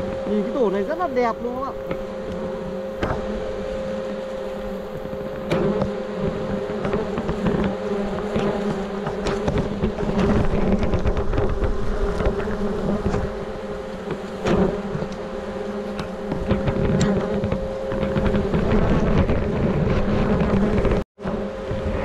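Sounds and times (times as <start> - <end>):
wasps buzzing: 0.0 - 22.0.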